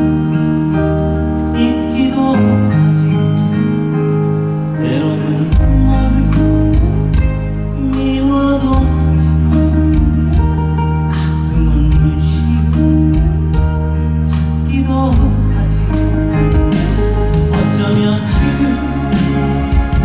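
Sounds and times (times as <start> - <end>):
song accompaniment chords and bass: 0.0 - 20.0.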